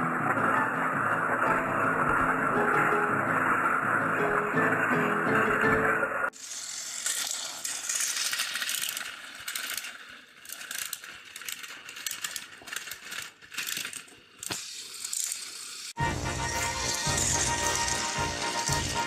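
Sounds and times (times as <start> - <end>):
toy train gears clicking and rattling: 0.2 - 19.0.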